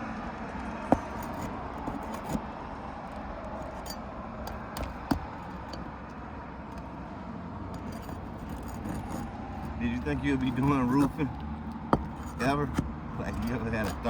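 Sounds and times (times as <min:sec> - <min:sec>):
outdoor background hum: 0:00.0 - 0:14.0.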